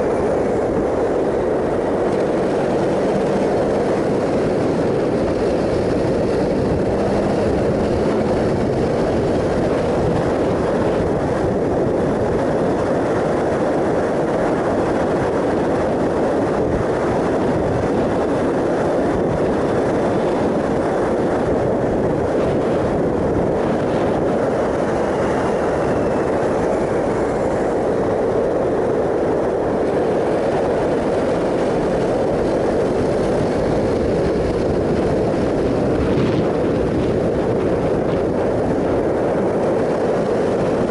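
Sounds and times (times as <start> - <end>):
motorcycle engine drone: 0.0 - 40.9
wind and road noise: 0.0 - 40.9.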